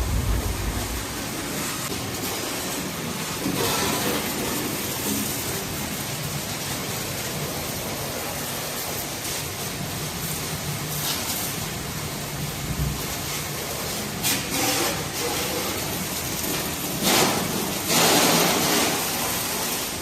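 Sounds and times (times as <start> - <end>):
water spraying: 0.0 - 20.0.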